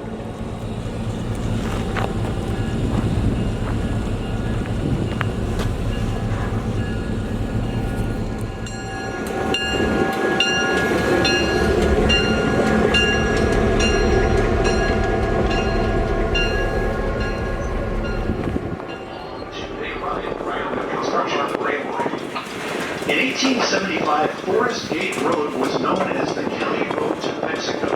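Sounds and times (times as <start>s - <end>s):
train rumbling: 0.0s - 27.9s.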